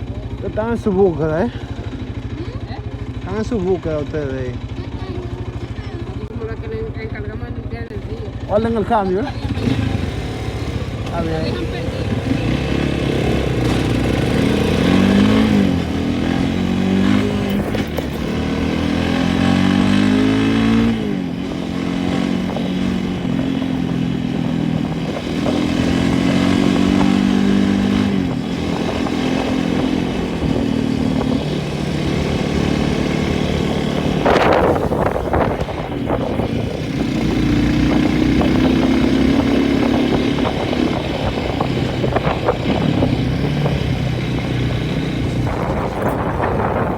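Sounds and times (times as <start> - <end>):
small engine running under load: 0.0 - 46.9.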